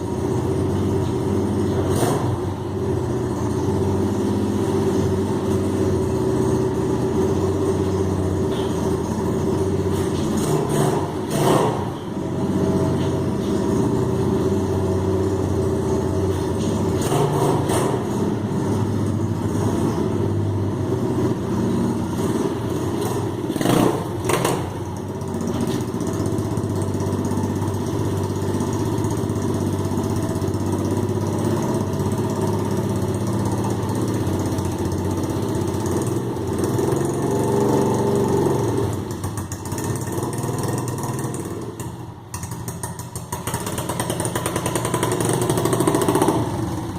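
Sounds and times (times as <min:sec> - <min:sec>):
motorbike engine idling: 0:00.0 - 0:46.9.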